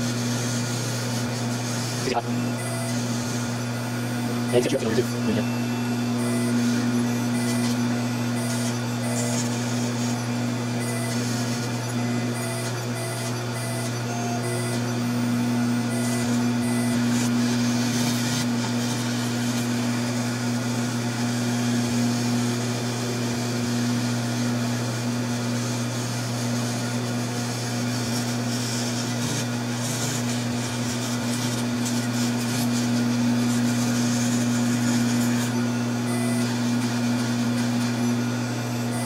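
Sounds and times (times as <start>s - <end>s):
end mill cutting foam hiss: 0.0s - 39.0s
mill spindle humming: 0.0s - 39.0s.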